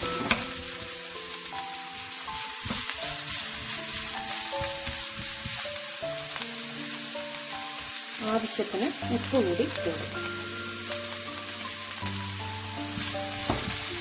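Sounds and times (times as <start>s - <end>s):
garlic and onion sizzling in oil: 0.0s - 14.0s.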